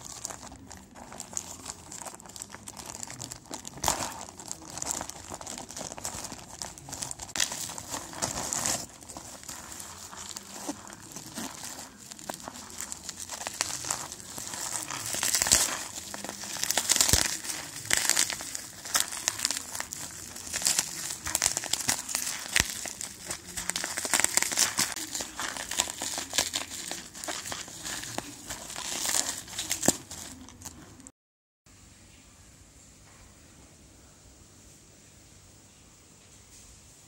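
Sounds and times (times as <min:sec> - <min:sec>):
plastic packaging crinkling: 0:00.0 - 0:31.1.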